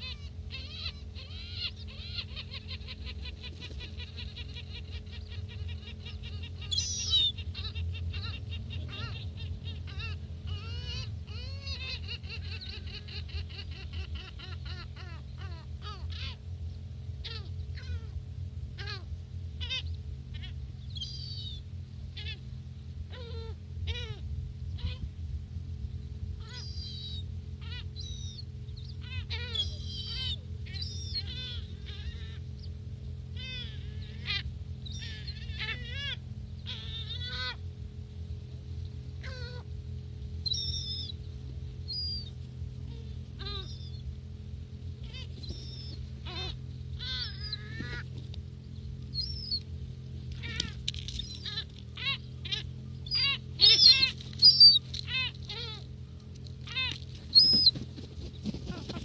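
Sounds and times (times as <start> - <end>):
gulls calling: 0.0 - 59.0
steady low hum: 0.0 - 59.0.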